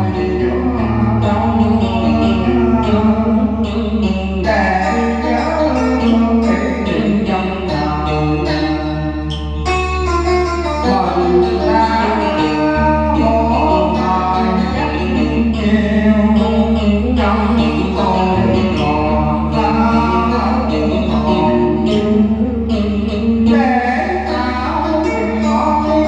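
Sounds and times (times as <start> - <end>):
ballad backing track: 0.0 - 26.0
person singing with vibrato: 0.0 - 26.0.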